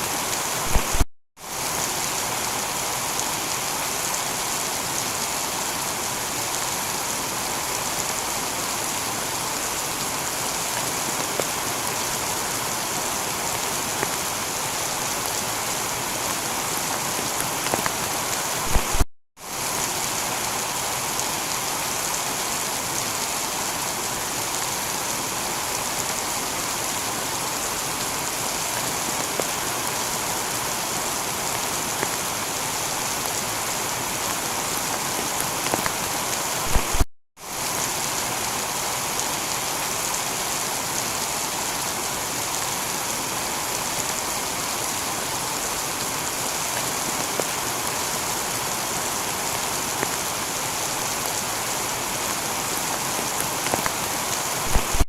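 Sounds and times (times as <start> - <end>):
heavy rain on tiled roof: 0.0 - 55.0.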